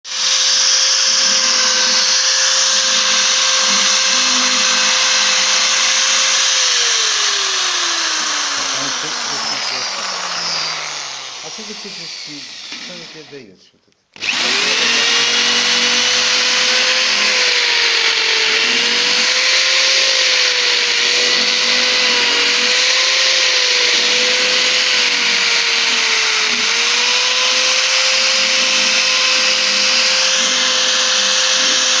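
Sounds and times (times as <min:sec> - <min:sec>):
electric drill boring into wood: 0:00.1 - 0:13.4, 0:14.2 - 0:32.0.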